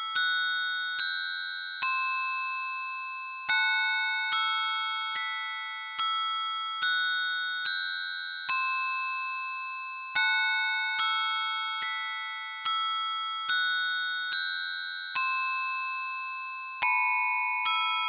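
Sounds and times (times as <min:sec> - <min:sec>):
music box melody: 0:00.0 - 0:18.0.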